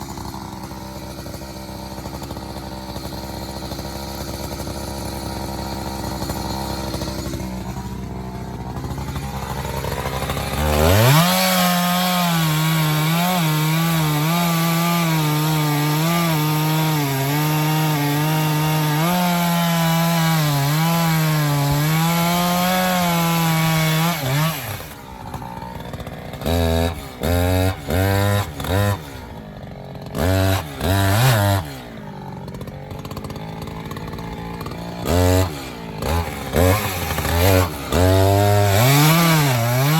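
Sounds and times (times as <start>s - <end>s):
chainsaw cutting wood: 0.0s - 39.9s
chainsaw throttle blips: 0.0s - 39.9s.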